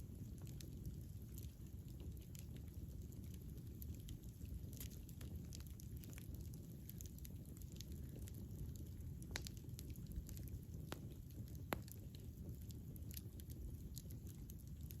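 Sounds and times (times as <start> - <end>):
fire crackles and pops: 0.0 - 15.0
rumble of flames: 0.0 - 15.0.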